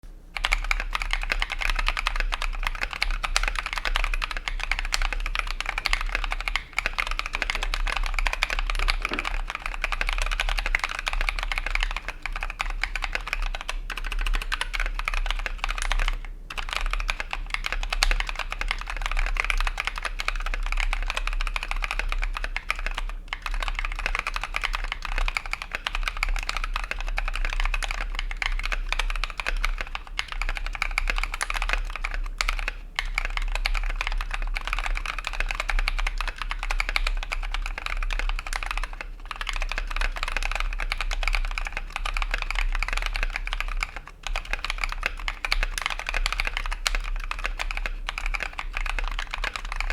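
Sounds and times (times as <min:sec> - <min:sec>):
steady low hum: 0:00.0 - 0:49.9
fast mechanical keyboard typing: 0:00.4 - 0:49.9.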